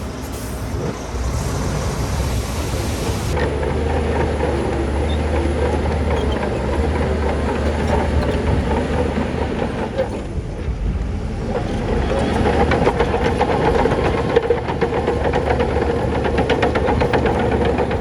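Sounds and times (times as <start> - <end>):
bulldozer diesel engine: 0.0 - 18.0
steel tracks clanking: 0.0 - 18.0.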